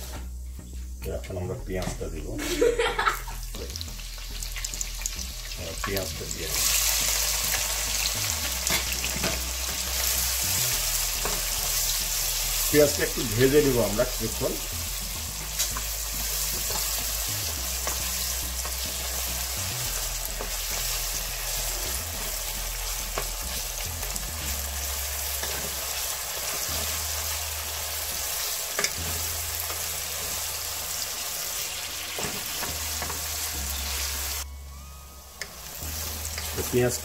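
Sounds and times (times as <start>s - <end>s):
onions sizzling in hot oil: 2.7s - 34.5s, 35.4s - 37.0s.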